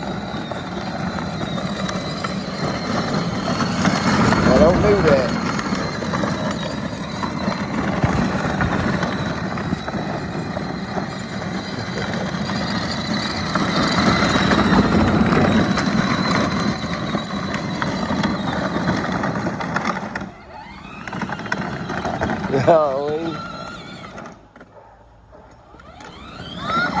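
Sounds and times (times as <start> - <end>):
vehicle mechanical drone: 0.0 - 27.0.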